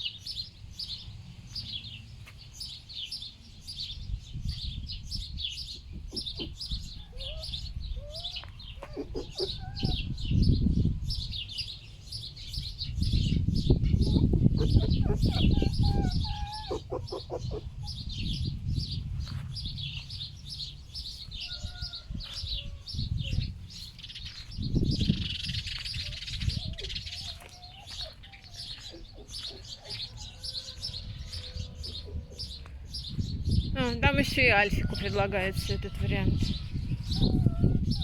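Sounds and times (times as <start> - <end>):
small birds chirping: 0.0 - 38.0
wind rumbling on microphone: 0.3 - 38.0.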